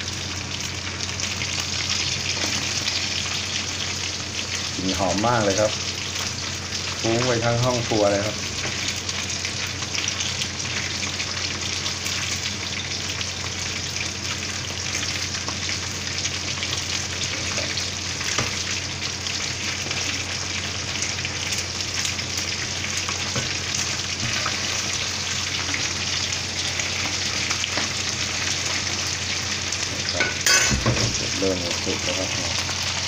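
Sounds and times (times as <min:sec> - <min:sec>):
chicken frying in hot oil: 0:00.0 - 0:33.0.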